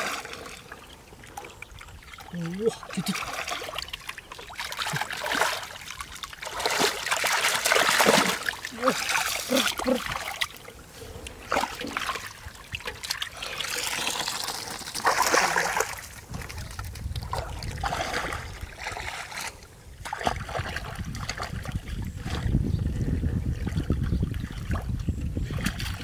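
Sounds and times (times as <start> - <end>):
muddy water splashing: 0.0 - 26.0.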